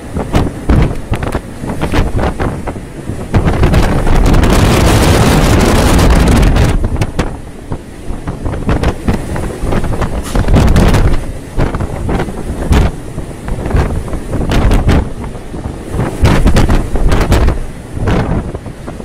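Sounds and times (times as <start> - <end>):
rough sea rushing: 0.0 - 19.0
wind buffeting microphone: 0.0 - 19.0.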